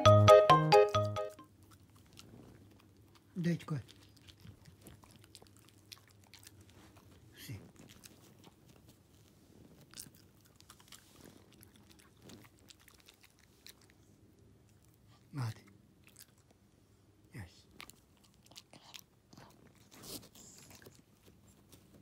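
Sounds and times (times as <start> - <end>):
dogs chewing treats: 1.6 - 16.6, 17.7 - 22.0.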